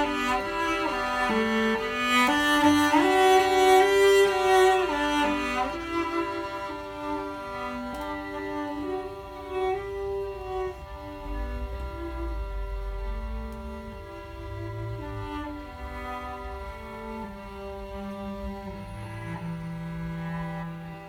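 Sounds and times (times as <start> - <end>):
violin and cello folk tune: 0.0 - 21.0.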